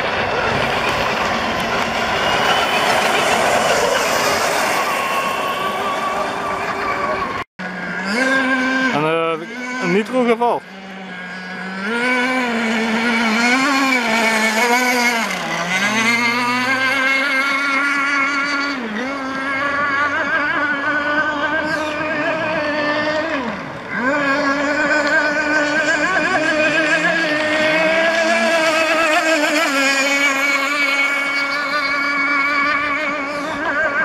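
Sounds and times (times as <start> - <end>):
model speedboat engine racing: 0.0 - 34.0.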